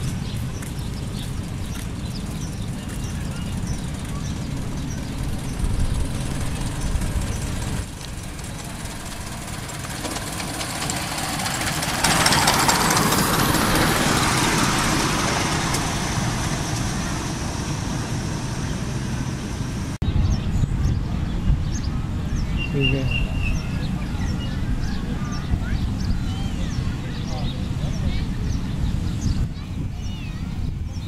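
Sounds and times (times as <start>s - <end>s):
miniature train rumbling on track: 0.0s - 20.0s, 20.6s - 31.0s.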